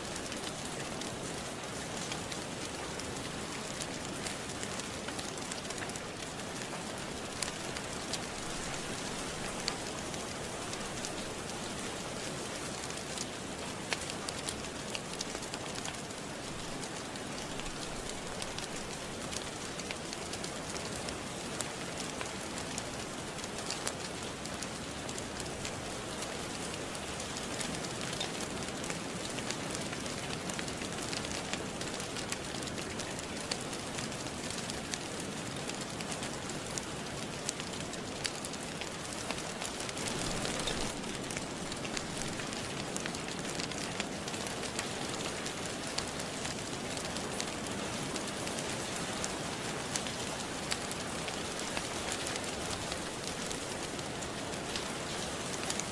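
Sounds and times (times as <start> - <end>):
steady rain falling: 0.0 - 55.9
wood fire crackling and popping: 0.0 - 55.9.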